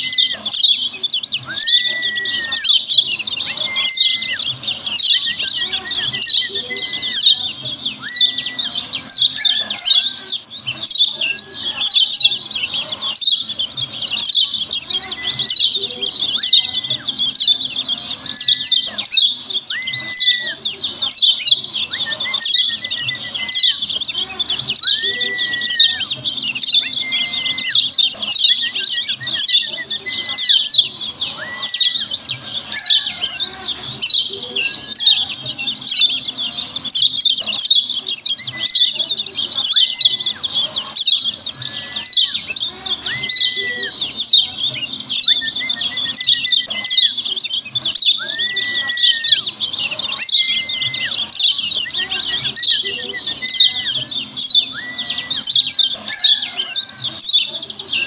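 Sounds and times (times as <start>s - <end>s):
slurred bird whistle: 0.0s - 12.4s, 14.2s - 58.0s
high bird chirps: 0.0s - 58.0s.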